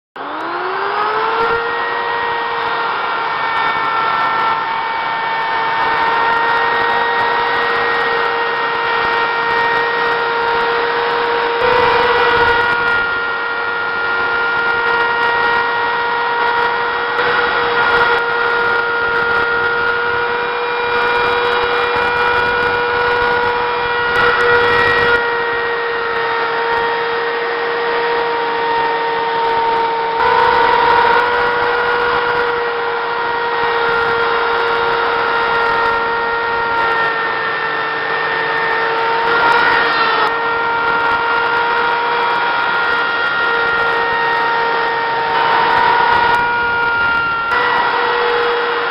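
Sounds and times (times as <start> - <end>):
router motor whine: 0.2 - 48.9.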